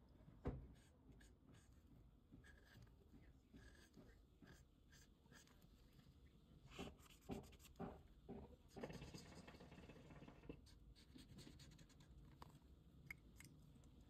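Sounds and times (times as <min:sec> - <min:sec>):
colored pencil scratching on paper: 0:00.7 - 0:12.2.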